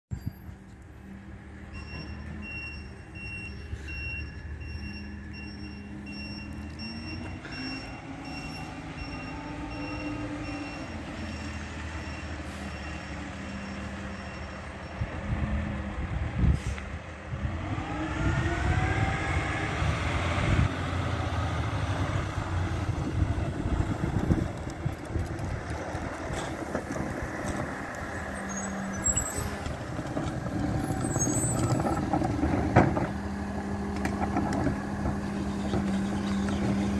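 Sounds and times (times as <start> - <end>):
truck diesel engine: 0.1 - 36.9.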